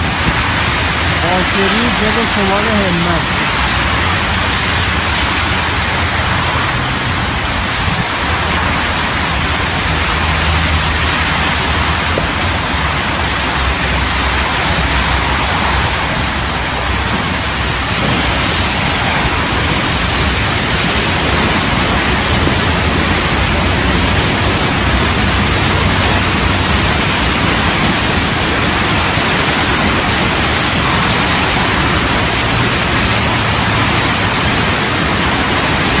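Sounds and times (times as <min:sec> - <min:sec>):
floodwater rushing down channel: 0:00.0 - 0:36.0
tyres hissing on wet road: 0:00.0 - 0:36.0.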